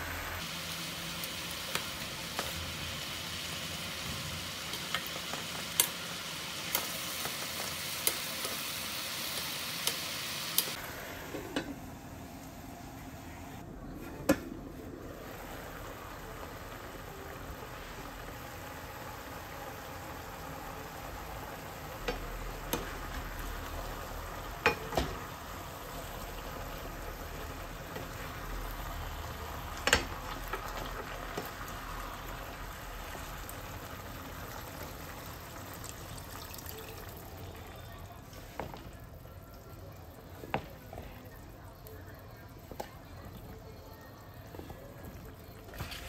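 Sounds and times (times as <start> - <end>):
food sizzling in a frying pan: 0.0 - 11.4, 15.1 - 40.7.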